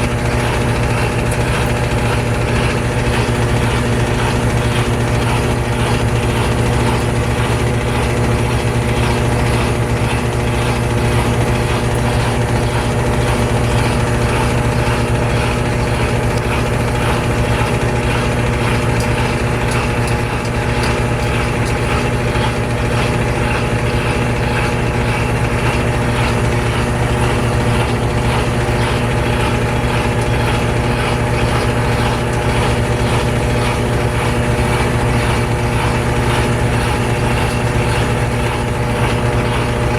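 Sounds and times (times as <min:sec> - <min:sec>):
washing machine drum spinning: 0:00.0 - 0:39.9.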